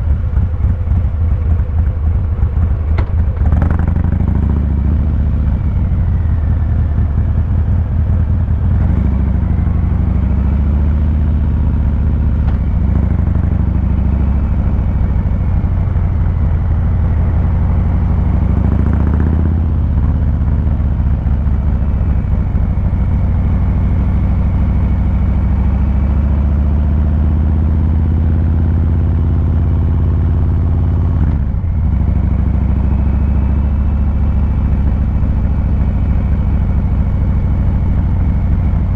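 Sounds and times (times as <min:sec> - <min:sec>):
motorcycle exhaust at low revs: 0:00.0 - 0:38.9.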